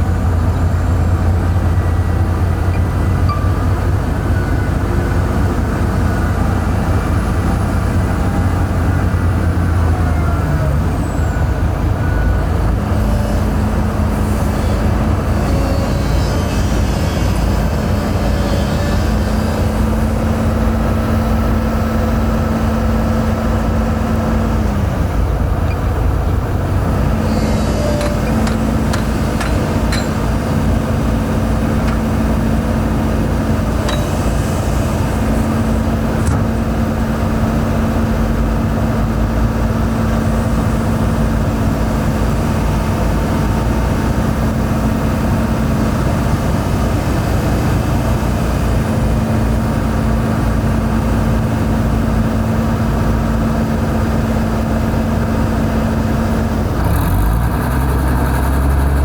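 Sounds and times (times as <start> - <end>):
deeper engine sound: 0.0 - 59.0
heavy diesel engine droning: 0.0 - 59.0.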